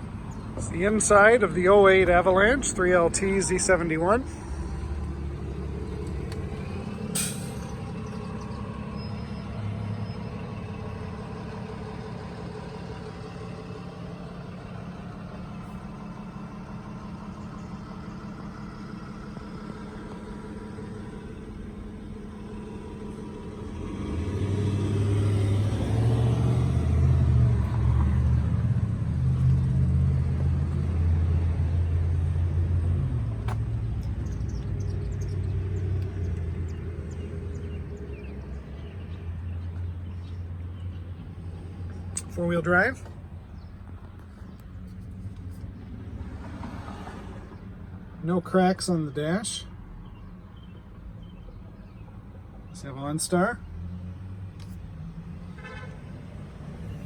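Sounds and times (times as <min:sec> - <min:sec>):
low vehicle rumble: 0:00.0 - 0:57.0.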